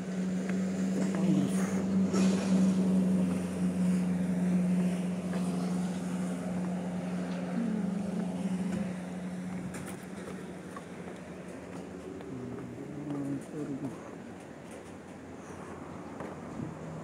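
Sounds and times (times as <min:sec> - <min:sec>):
motor humming: 0:00.0 - 0:14.2.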